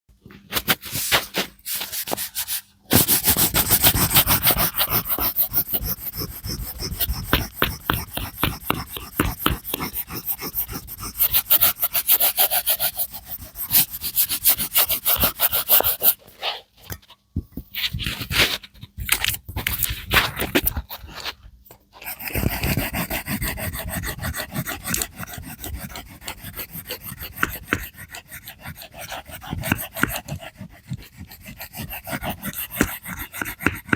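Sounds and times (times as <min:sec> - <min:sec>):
pencil scratching on paper: 0:00.6 - 0:16.6, 0:19.6 - 0:33.9.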